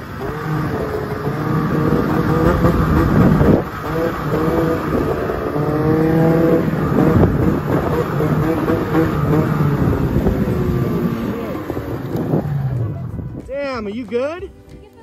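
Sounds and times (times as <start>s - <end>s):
snowmobile engine revving: 0.0s - 13.4s.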